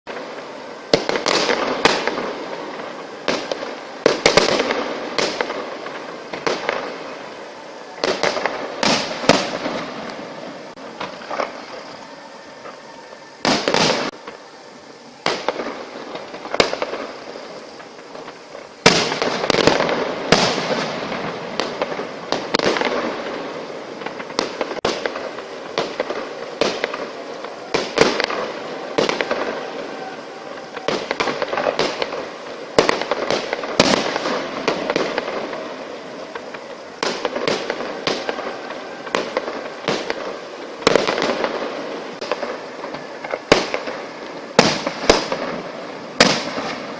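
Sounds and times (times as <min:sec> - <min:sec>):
fireworks bangs and booms: 0:00.0 - 0:46.9
fireworks crackling and fizzing: 0:00.0 - 0:46.9.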